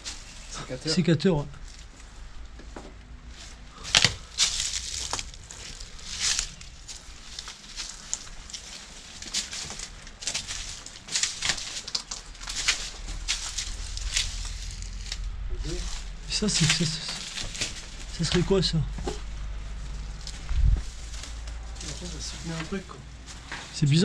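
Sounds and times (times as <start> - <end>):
footsteps crunching on dry leaves: 3.2 - 23.8.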